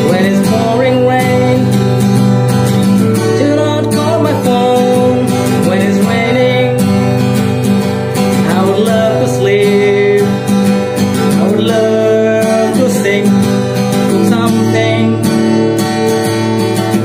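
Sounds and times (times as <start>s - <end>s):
man singing: 0.0s - 7.4s, 8.1s - 16.2s
acoustic guitar strumming: 0.0s - 17.0s.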